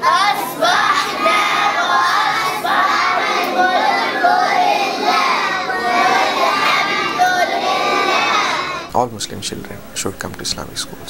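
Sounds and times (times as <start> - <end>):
children singing in unison: 0.0 - 8.9.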